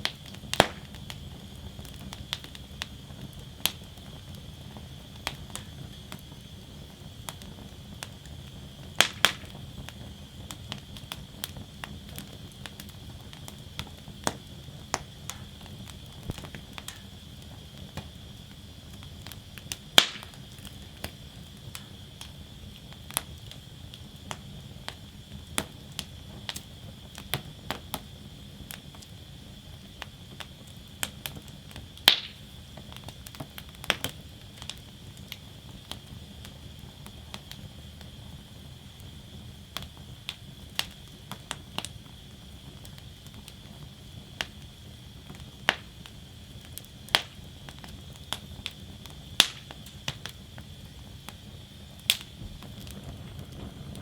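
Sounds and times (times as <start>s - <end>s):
low rush of flame: 0.0s - 54.0s
wood fire crackling: 0.0s - 54.0s.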